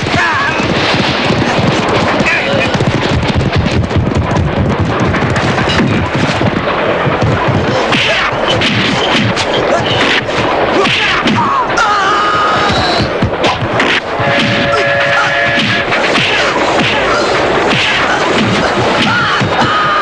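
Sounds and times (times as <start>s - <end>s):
train clattering: 0.0s - 20.0s.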